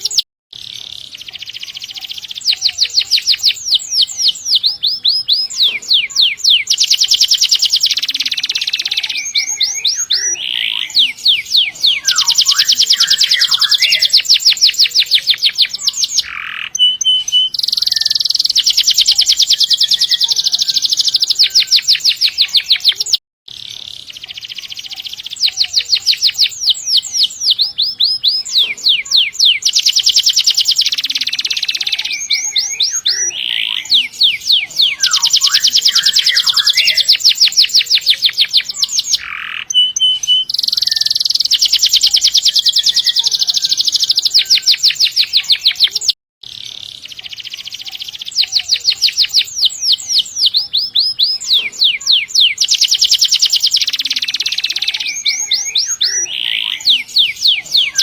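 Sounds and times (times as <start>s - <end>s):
canary trilling: 0.0s - 58.0s.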